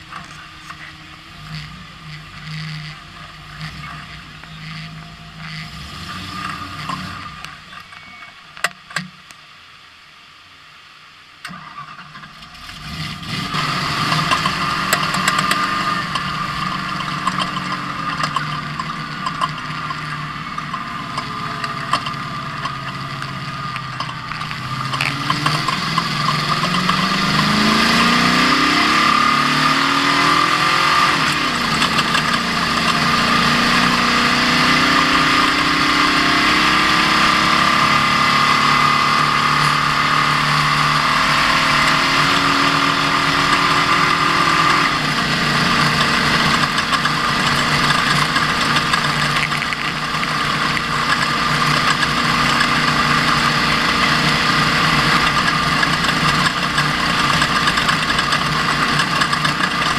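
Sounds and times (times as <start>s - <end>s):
truck engine revving: 0.0s - 7.8s, 12.4s - 59.9s.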